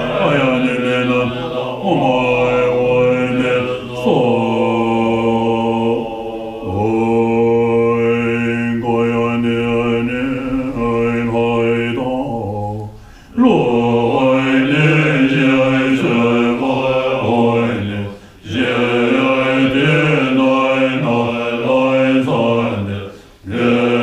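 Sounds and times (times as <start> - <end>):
monks chanting low held tones: 0.0 - 24.0.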